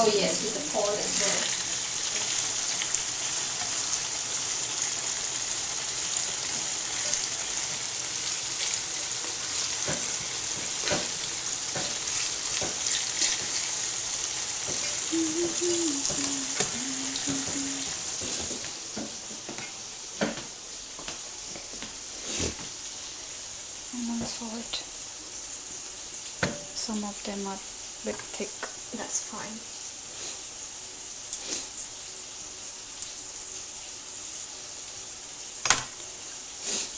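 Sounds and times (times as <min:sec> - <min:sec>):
food sizzling in hot oil: 0:00.0 - 0:36.9.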